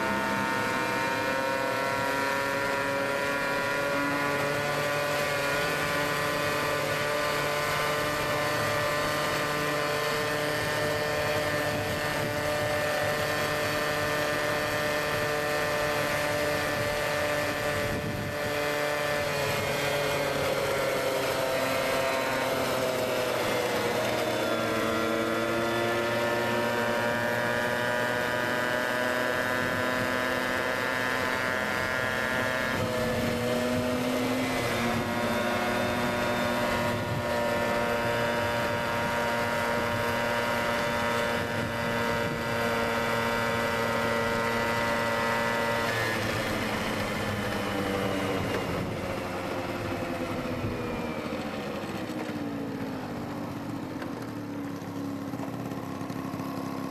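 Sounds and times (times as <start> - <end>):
moped engine running: 0.0 - 56.9.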